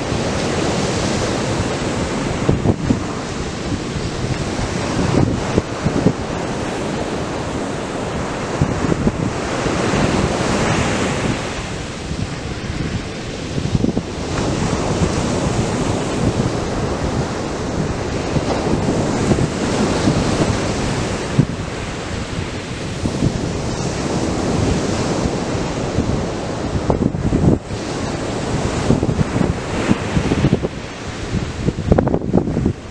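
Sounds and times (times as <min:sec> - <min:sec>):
surf breaking on sandy beach: 0:00.0 - 0:32.9.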